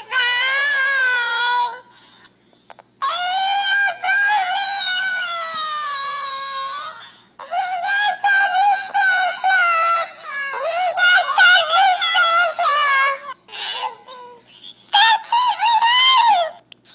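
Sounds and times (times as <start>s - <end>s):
high-pitched voice singing: 0.0s - 1.9s, 3.0s - 16.7s.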